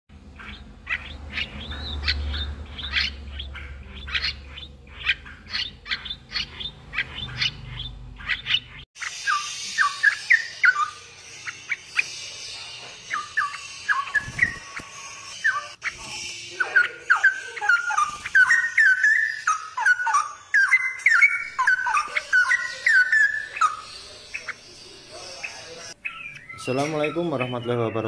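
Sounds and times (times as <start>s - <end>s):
bird chicks chirping: 0.1s - 28.0s.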